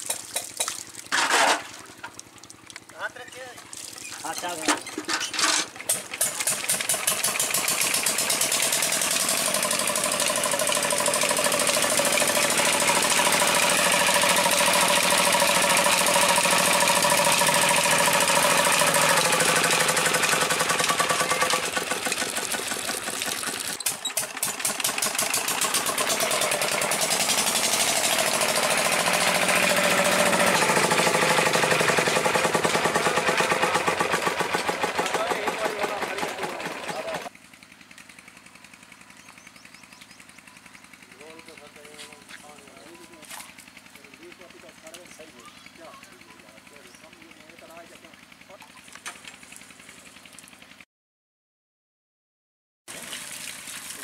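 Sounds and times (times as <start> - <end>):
diesel engine running: 0.8 - 50.8.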